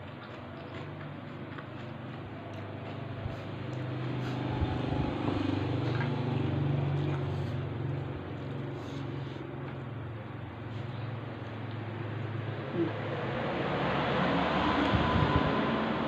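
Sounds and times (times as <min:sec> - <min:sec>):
vehicle engine low drone: 0:00.0 - 0:16.0.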